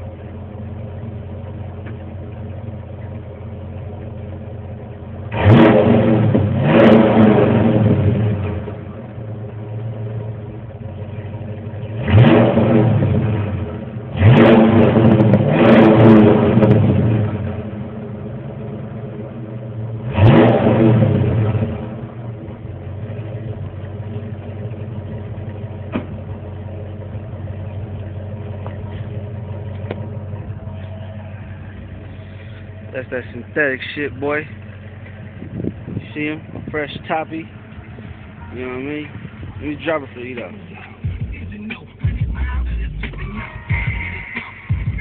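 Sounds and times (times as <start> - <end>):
car engine idling: 0.0 - 45.0
car engine revving: 0.0 - 45.0.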